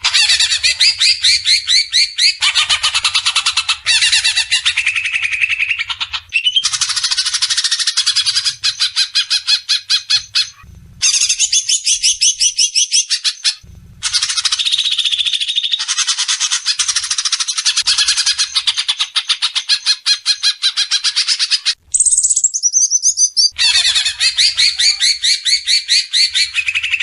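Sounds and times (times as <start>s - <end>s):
songbird trilling: 0.0s - 27.0s.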